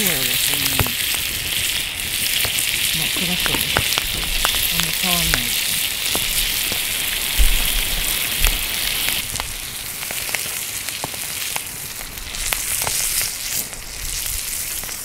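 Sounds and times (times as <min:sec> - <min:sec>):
meat sizzling on griddle: 0:00.0 - 0:15.0
sharp clicks and pops: 0:00.0 - 0:15.0.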